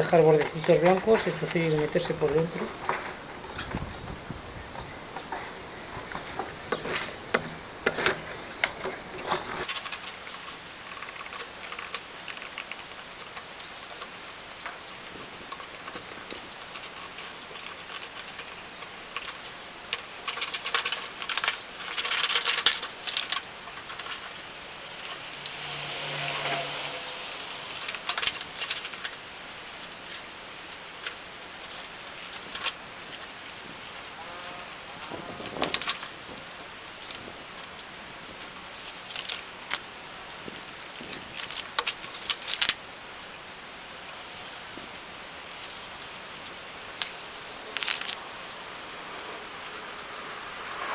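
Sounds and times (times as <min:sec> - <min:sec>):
paper rustling: 0:00.0 - 0:43.0, 0:43.6 - 0:50.9.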